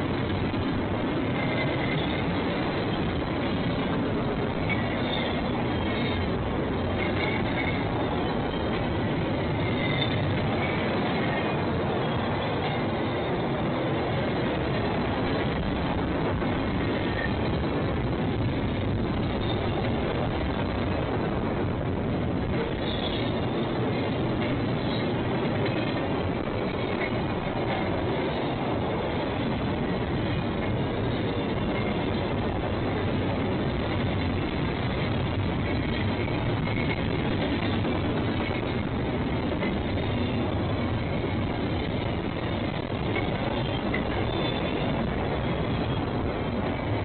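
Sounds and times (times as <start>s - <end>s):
railroad cars rolling on rails: 0.0s - 47.0s.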